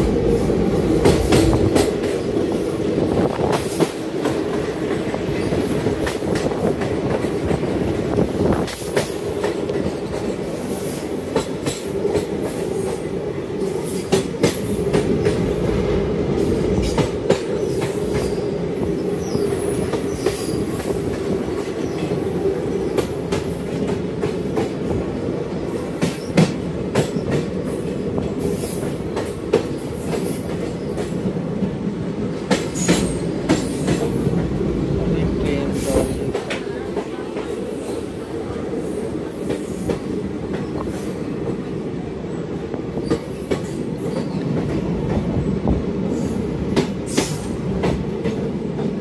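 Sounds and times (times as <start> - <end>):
train running gear rumbling: 0.0 - 49.0.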